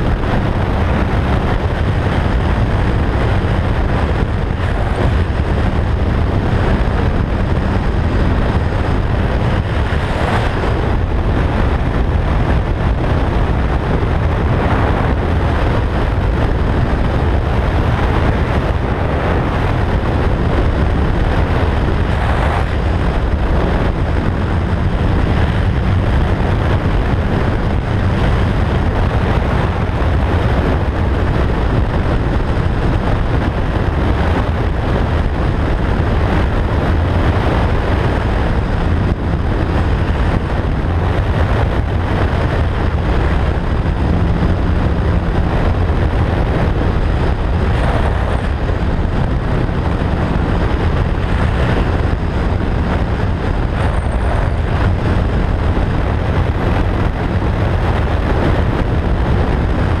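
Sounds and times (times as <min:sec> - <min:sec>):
motorcycle engine running: 0:00.0 - 1:00.0
wind rushing over microphone: 0:00.0 - 1:00.0.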